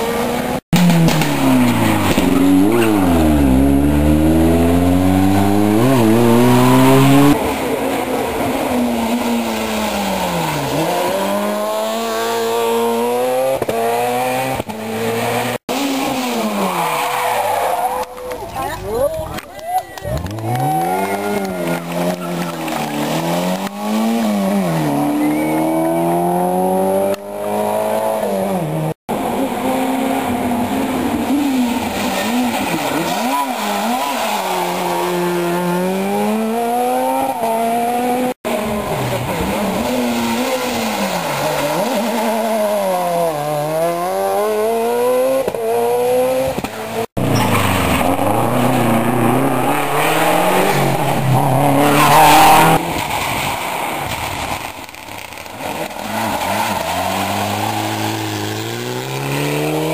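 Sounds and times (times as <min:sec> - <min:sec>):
rally car engines revving: 0:00.0 - 0:19.1, 0:20.0 - 0:59.9.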